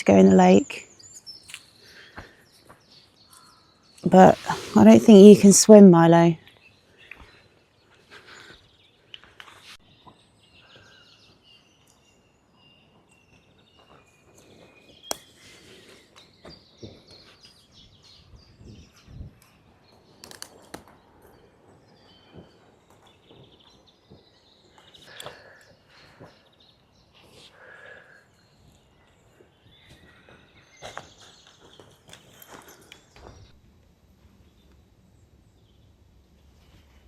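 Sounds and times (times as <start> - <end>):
small birds chirping: 0.0 - 33.6.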